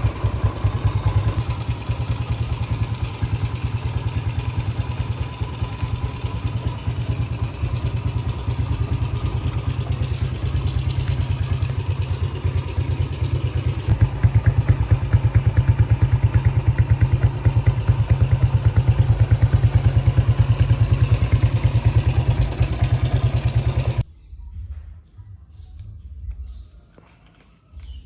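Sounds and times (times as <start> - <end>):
motorcycle engine idling: 0.0 - 24.1.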